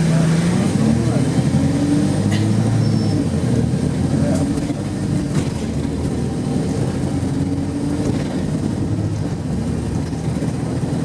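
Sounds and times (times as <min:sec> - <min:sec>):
bus diesel engine running: 0:00.0 - 0:11.0
road rumble: 0:00.0 - 0:11.0.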